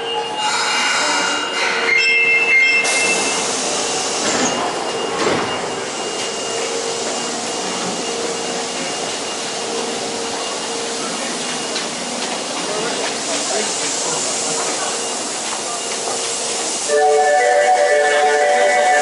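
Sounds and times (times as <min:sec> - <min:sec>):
subway train hiss and hum: 0:00.0 - 0:19.0.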